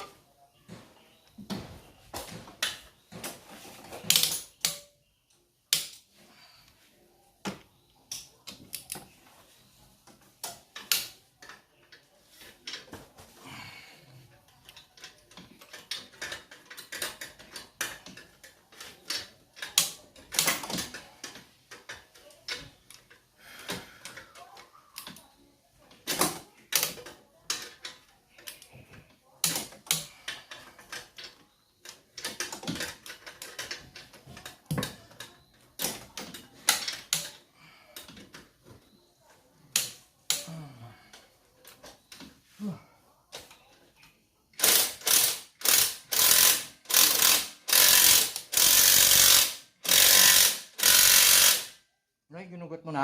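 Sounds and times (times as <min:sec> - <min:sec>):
tools and metal parts clicking: 0:02.2 - 0:06.1, 0:08.0 - 0:13.0, 0:14.3 - 0:42.4, 0:43.3 - 0:51.8.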